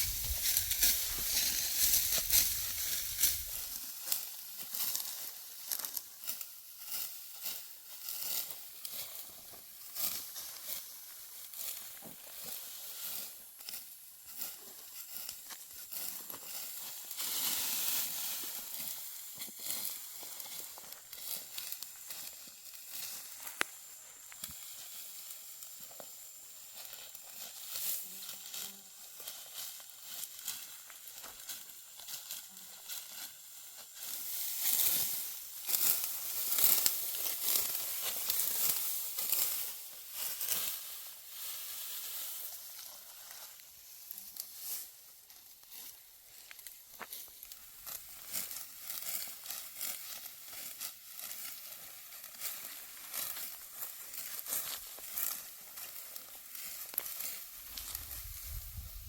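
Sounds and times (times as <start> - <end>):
dry wheat stalks rustling: 0.0 - 59.0.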